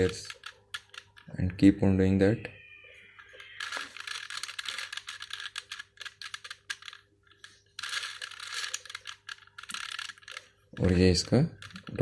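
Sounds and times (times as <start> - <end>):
puzzle cube clicking and rattling: 0.0 - 1.3, 3.4 - 12.0.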